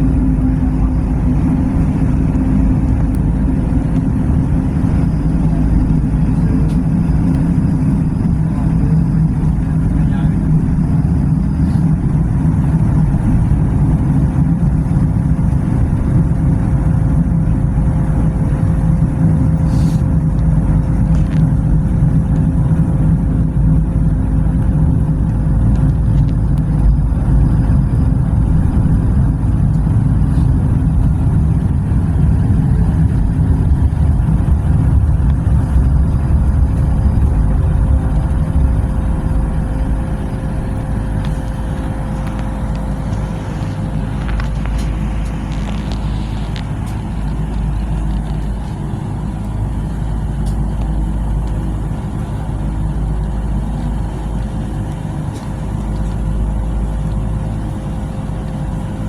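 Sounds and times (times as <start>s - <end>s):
faint steady hum: 0.0s - 59.0s
train rumble inside carriage: 0.0s - 59.0s.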